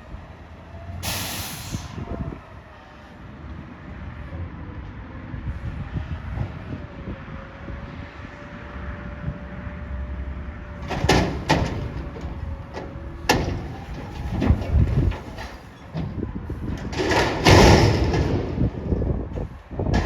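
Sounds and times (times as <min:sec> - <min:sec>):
garbage truck engine rumbling: 0:00.0 - 0:20.0.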